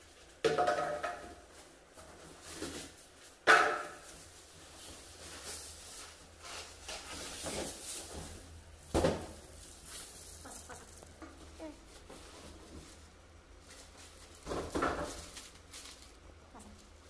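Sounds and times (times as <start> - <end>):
plastic wrapping rustling: 1.3 - 17.0.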